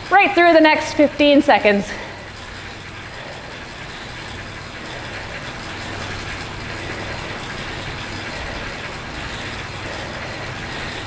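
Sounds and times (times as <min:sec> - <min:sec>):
bike trainer whirring: 0:00.0 - 0:11.0.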